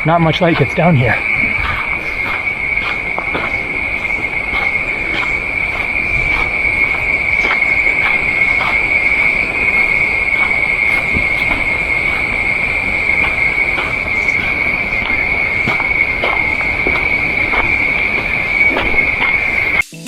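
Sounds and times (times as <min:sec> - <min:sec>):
cicadas droning: 0:00.0 - 0:19.8.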